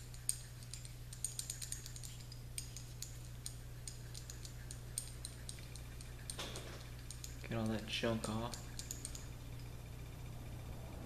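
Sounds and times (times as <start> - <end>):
small metal tool clicking: 0.0 - 9.7
low electrical hum: 0.0 - 11.0.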